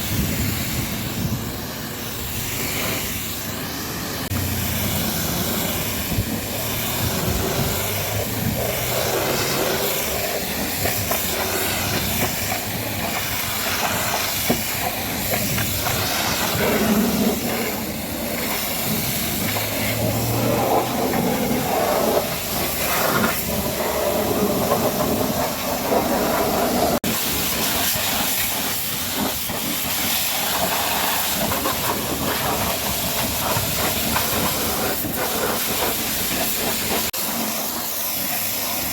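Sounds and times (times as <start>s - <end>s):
pressure washer spraying: 0.0s - 38.9s.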